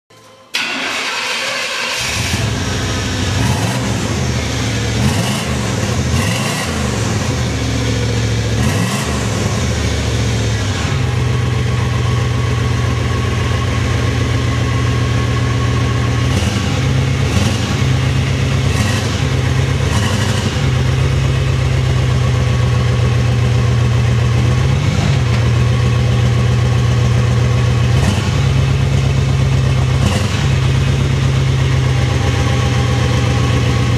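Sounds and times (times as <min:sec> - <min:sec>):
car engine starting and revving: 0:00.5 - 0:33.9.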